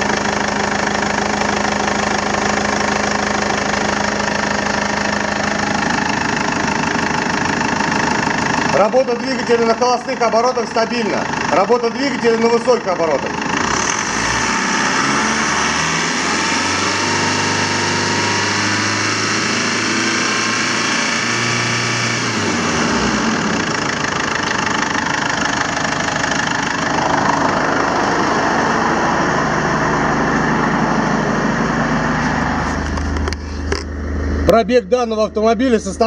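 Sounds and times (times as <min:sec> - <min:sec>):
diesel engine running at high revs: 0:00.0 - 0:36.0.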